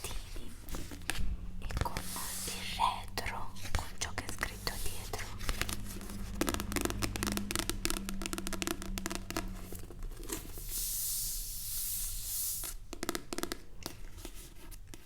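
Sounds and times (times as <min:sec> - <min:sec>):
paper rubbing rustle: 0:00.0 - 0:12.7.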